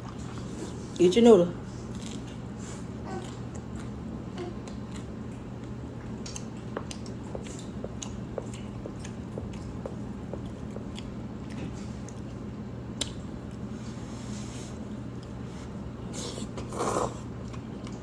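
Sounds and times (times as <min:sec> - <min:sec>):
person chewing food: 0:00.0 - 0:01.0, 0:01.8 - 0:18.0
steady low hum: 0:00.0 - 0:18.0.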